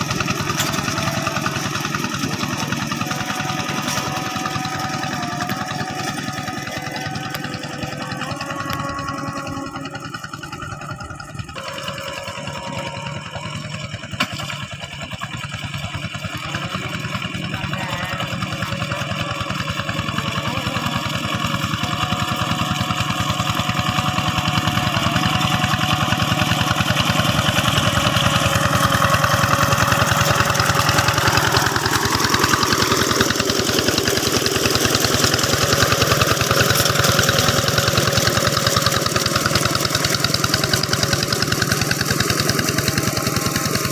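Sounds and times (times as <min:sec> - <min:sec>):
hand tractor diesel engine: 0:00.0 - 0:43.9.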